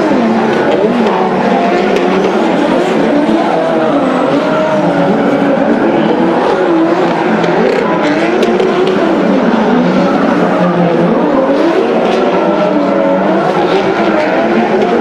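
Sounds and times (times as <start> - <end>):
drift car engines revving: 0.0 - 15.0.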